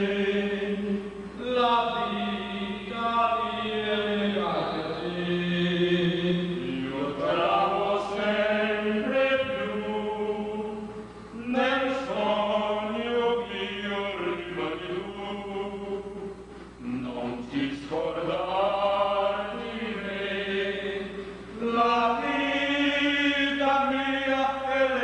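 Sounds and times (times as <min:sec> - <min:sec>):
men singing into a microphone: 0:00.0 - 0:25.0.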